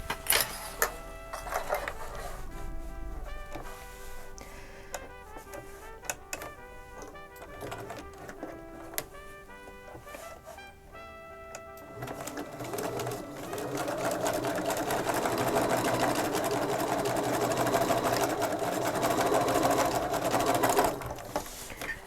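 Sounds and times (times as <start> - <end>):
sewing machine stitching: 0.0 - 10.7, 11.4 - 22.0
background music: 0.0 - 22.0.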